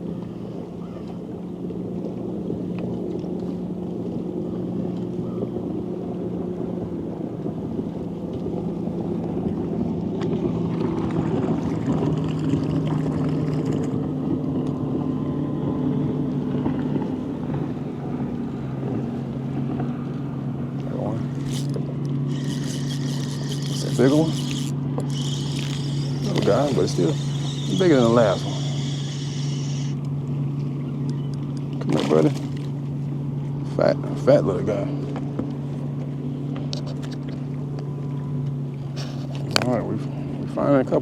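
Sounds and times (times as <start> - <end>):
boat motor running: 0.0 - 41.0.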